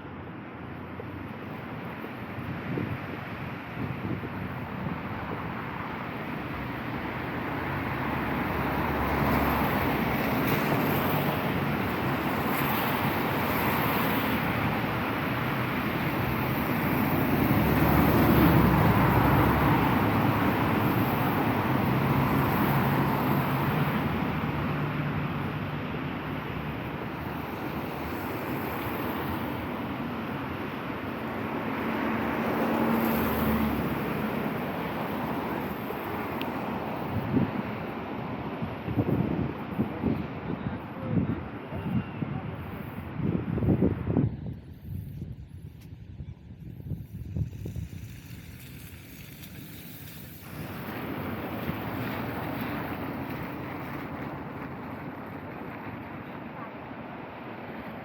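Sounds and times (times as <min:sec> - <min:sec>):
cars passing: 0:00.0 - 0:46.0, 0:46.6 - 0:58.0.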